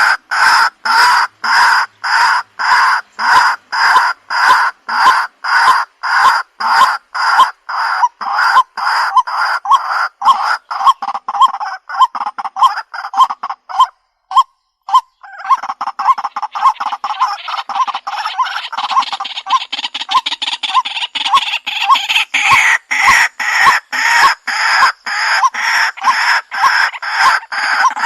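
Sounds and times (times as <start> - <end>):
waterhen croaking calls: 0.0 - 28.0.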